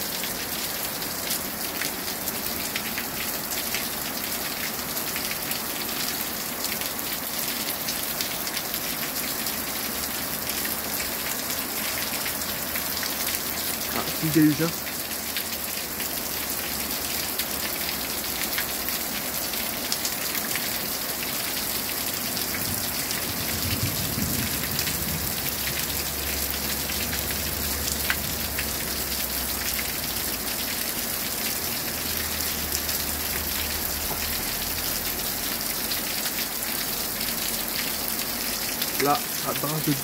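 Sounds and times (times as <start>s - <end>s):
heavy rain falling: 0.0s - 40.0s
water spilling over gutter: 0.0s - 40.0s.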